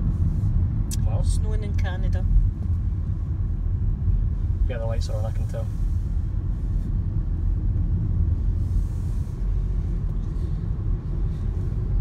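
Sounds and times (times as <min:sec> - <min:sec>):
car driving on wet road: 0:00.0 - 0:12.0.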